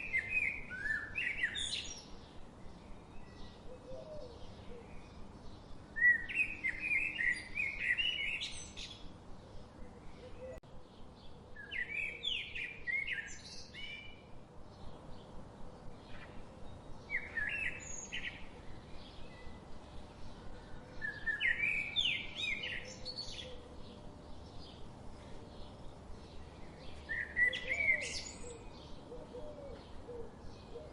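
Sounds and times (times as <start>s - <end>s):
faint steady hiss: 0.0s - 30.9s
songbirds chirping: 0.0s - 30.9s.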